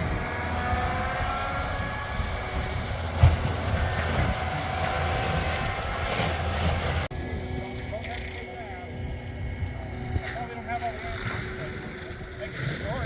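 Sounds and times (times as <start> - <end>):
heavy machine engine rumbling: 0.0 - 12.4.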